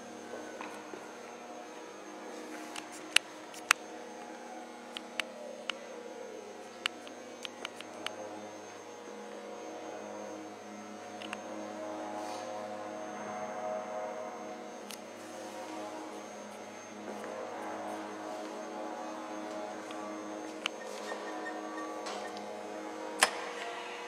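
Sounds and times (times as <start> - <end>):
foam cutting machine humming: 0.0 - 24.0
whine gliding down in pitch: 0.0 - 24.0.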